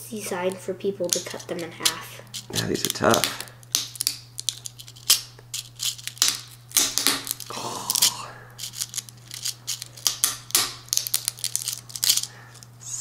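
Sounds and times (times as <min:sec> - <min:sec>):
knife cracking through rattle segments: 0:01.0 - 0:12.7.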